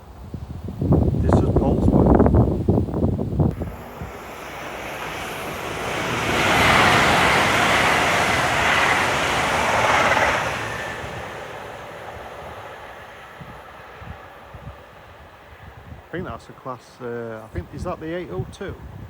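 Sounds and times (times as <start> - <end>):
faint high whine: 3.1 - 19.0
train passing at speed: 3.5 - 19.0.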